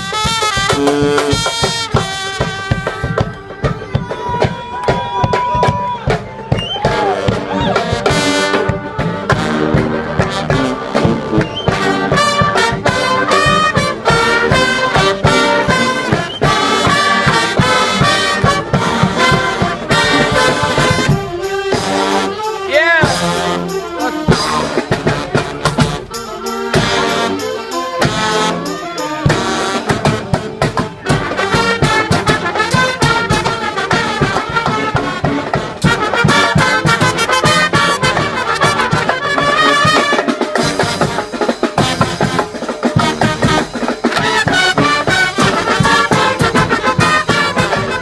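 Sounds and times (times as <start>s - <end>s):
brass band playing: 0.0s - 48.0s
drum beat: 0.0s - 48.0s.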